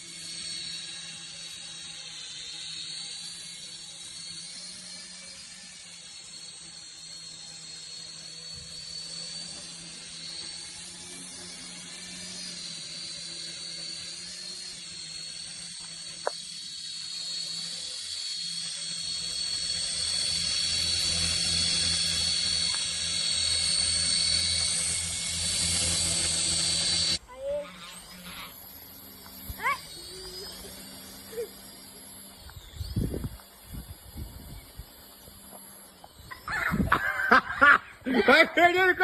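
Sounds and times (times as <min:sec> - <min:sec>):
helicopter motor and rotor whirring: 0:00.0 - 0:39.0.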